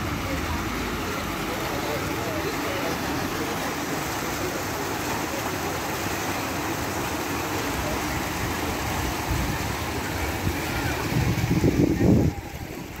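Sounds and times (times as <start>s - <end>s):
fountain jets splashing into pool: 0.0s - 13.0s.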